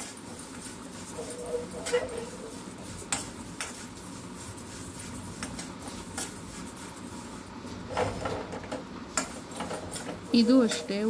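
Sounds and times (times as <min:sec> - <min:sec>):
seeds stirred in a hot pan: 0:00.0 - 0:11.0.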